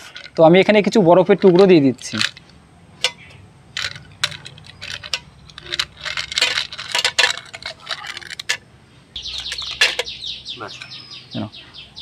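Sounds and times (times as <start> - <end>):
ice clinking against metal jar: 0.0 - 8.6, 9.2 - 10.9.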